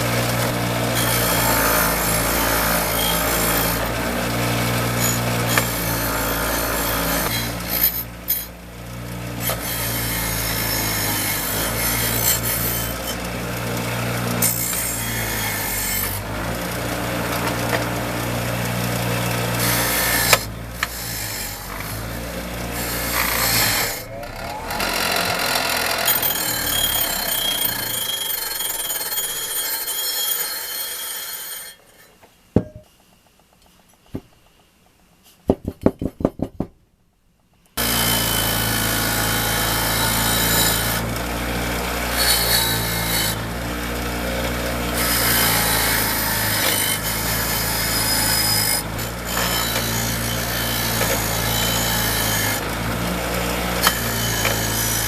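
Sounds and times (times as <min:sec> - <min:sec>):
power tool grinding: 0:00.0 - 0:32.2, 0:37.8 - 0:55.0.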